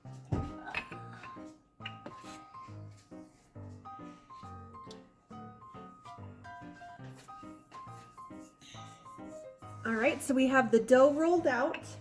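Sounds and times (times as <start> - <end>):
bouncy background music: 0.0 - 12.0.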